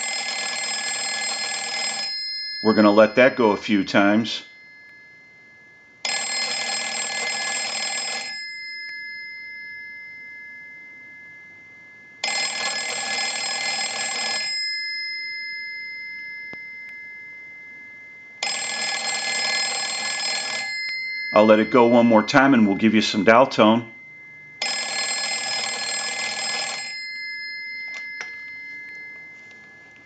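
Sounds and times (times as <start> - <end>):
telephone bell ringing: 0.0 - 17.0, 17.8 - 30.0.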